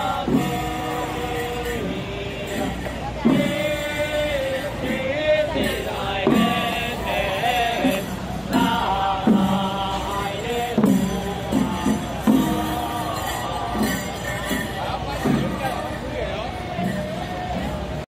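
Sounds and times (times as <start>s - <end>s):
voices chanting rhythmically: 0.0s - 18.0s.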